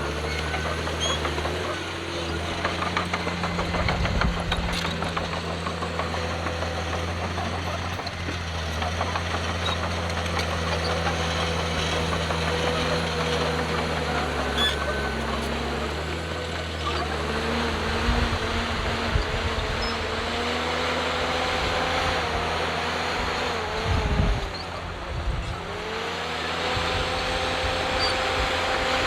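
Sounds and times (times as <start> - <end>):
heavy machinery diesel engine: 0.0 - 29.0.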